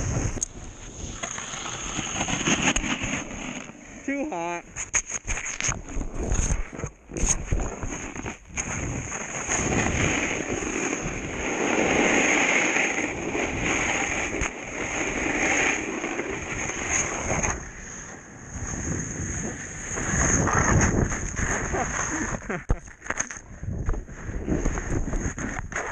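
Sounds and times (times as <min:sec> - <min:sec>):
snowboard scraping over snow: 0:00.0 - 0:25.9.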